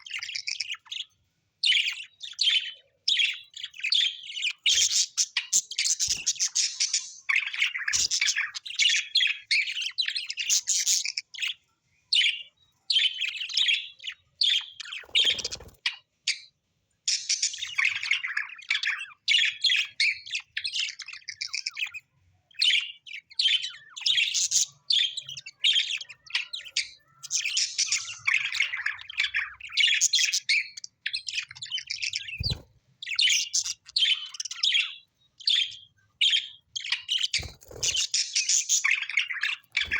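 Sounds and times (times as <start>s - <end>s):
parrots chirping and squawking: 0.0s - 11.6s, 17.1s - 39.9s.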